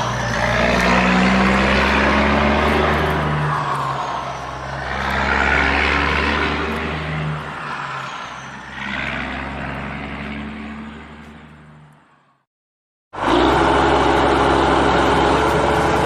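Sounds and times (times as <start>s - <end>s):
engine running: 0.0s - 12.1s, 13.2s - 16.0s.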